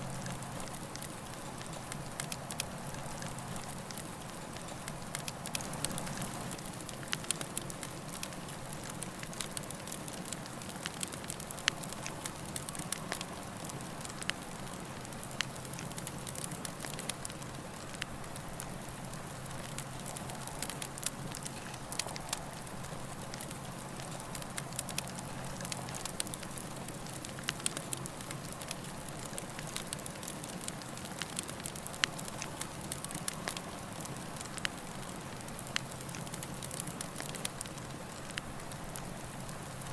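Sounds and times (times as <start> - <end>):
burning wood crackling and popping: 0.0 - 39.9
campfire flames hissing: 0.0 - 39.9.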